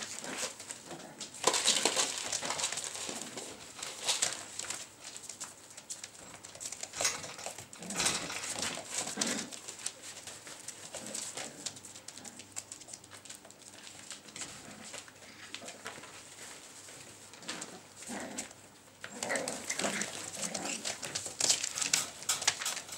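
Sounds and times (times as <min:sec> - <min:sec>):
plastic sheet crinkling: 0:00.0 - 0:22.9.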